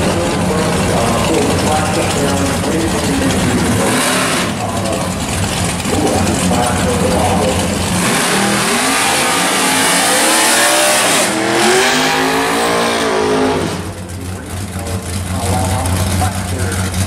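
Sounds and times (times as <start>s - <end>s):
drag car engines revving: 0.0s - 17.0s.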